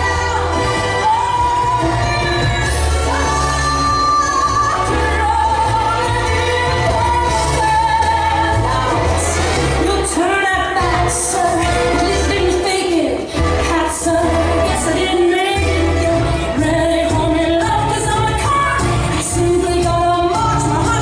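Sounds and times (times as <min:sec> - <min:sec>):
female vocal over band music: 0:00.0 - 0:21.0.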